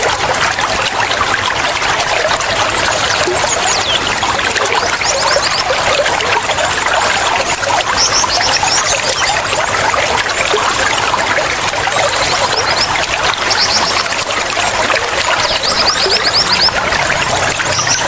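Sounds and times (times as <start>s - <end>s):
water flowing and trickling: 0.0s - 18.0s.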